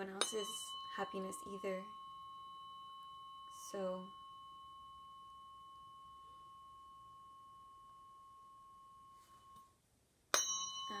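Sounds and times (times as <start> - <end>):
tuning fork ringing: 0.0 - 11.0
tuning fork struck: 0.0 - 11.0.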